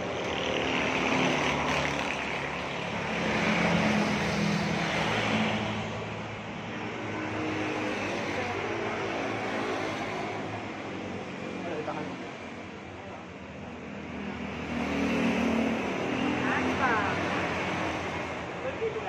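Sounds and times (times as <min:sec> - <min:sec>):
traffic passing by: 0:00.0 - 0:19.0.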